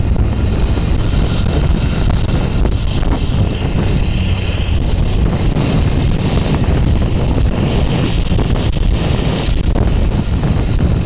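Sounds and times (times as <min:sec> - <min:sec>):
vehicle rumbling on road: 0:00.0 - 0:11.0
wind buffeting microphone: 0:00.0 - 0:11.0.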